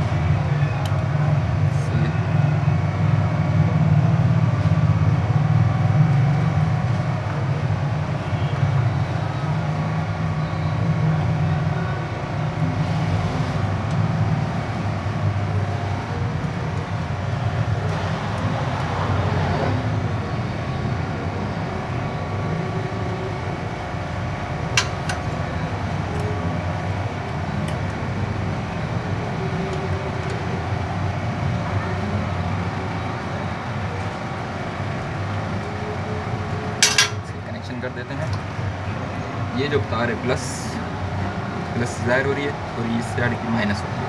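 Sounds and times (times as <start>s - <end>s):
low mechanical drone: 0.0s - 44.0s.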